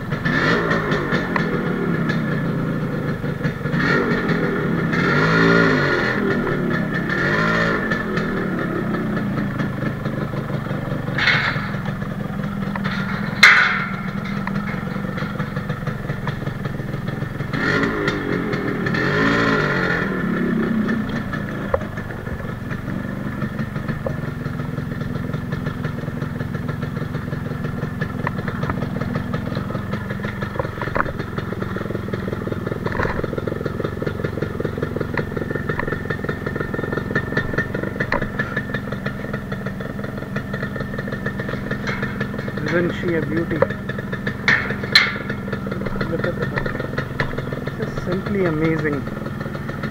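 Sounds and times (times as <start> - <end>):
engine throttle blip: 0.0 - 49.9
two-stroke engine idling: 0.0 - 49.9.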